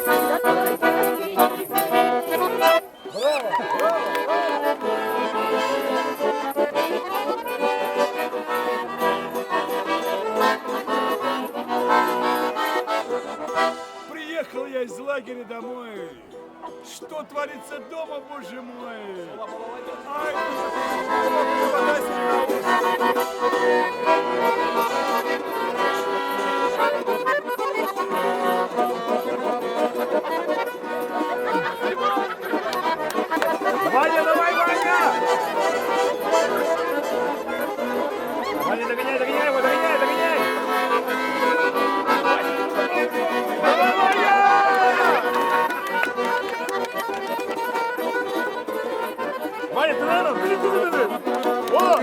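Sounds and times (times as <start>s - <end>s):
button accordion folk tune: 0.0s - 52.0s.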